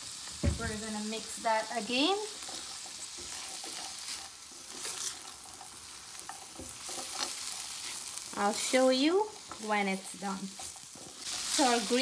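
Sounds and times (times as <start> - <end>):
vegetables sizzling in a frying pan: 0.0 - 12.0
spatula scraping a pan: 1.8 - 12.0.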